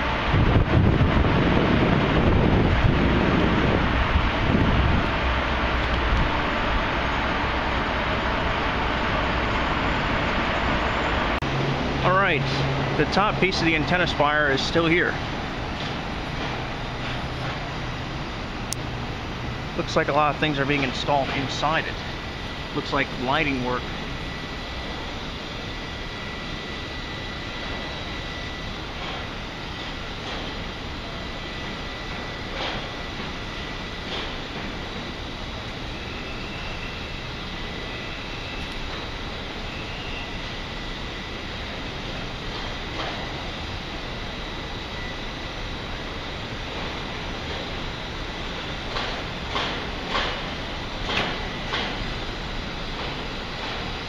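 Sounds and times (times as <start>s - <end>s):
city street traffic noise: 0.0s - 54.0s
constant rumbling noise: 0.0s - 54.0s
thin steady whine: 0.0s - 54.0s.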